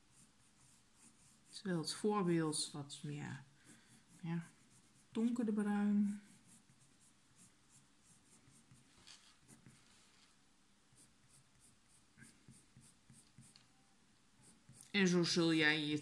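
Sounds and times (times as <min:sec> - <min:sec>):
pencil scratching on paper: 0:00.0 - 0:10.0, 0:10.9 - 0:13.6, 0:14.4 - 0:16.0.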